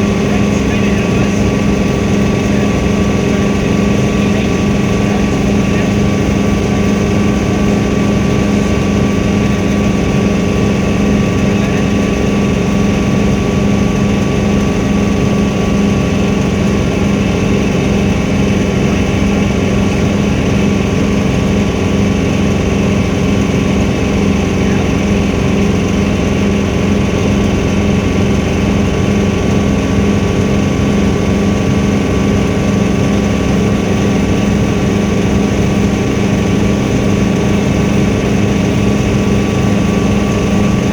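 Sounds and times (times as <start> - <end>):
helicopter drone from inside cabin: 0.0 - 40.9.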